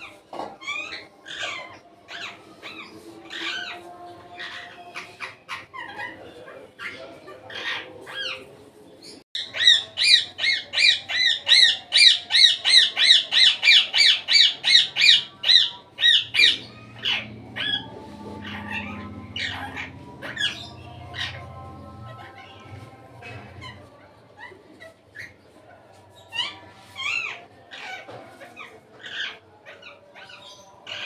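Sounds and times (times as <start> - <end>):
parakeet squawking: 0.0 - 8.5, 9.4 - 25.6, 26.2 - 31.0.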